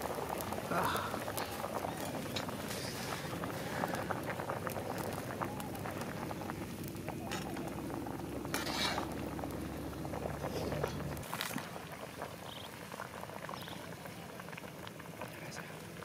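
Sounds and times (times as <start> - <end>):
curry bubbling at a boil: 0.0 - 16.0.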